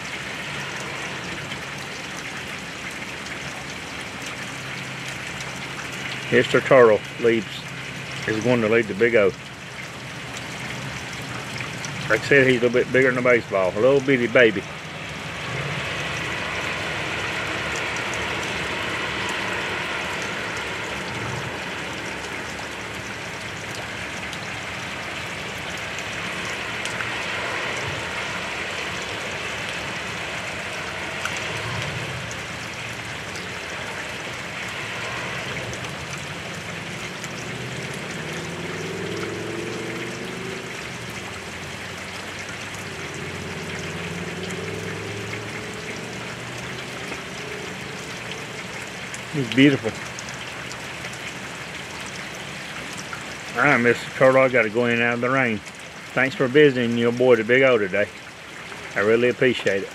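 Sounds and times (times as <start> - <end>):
heavy rain pouring: 0.0 - 59.9
raindrop ticks: 0.0 - 59.9.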